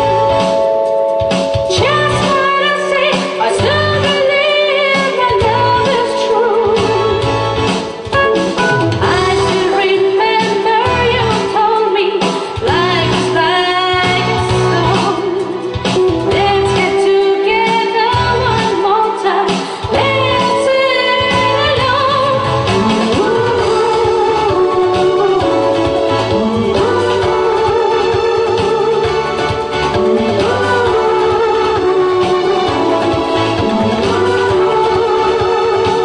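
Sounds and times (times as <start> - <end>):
keyboard and band accompaniment: 0.0 - 36.0
woman singing a ballad: 1.6 - 36.0.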